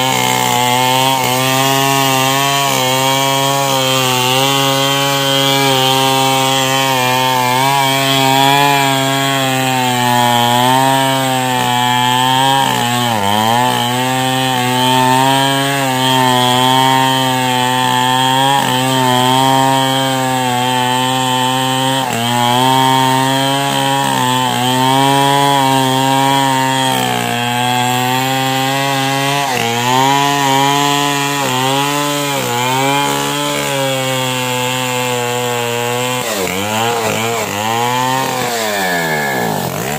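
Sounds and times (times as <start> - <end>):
chainsaw cutting tree trunk: 0.0 - 39.9.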